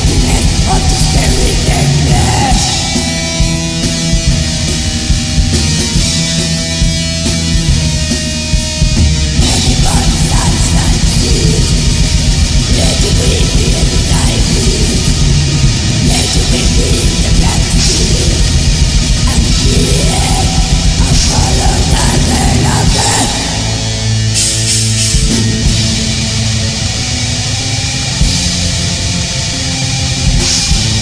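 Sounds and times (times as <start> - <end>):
fast drum kit: 0.0 - 27.0, 29.9 - 31.0
heavy metal song: 0.0 - 31.0.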